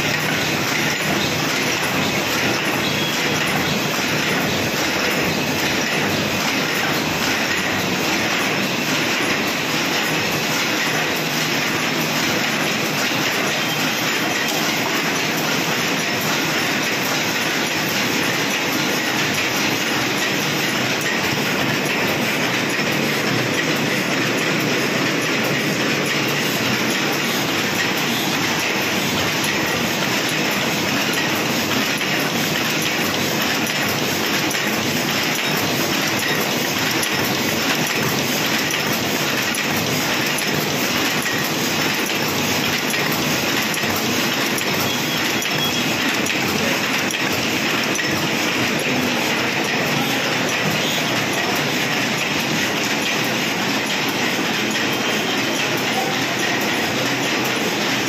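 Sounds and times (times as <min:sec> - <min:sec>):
paper cup machine clattering: 0:00.0 - 0:58.0.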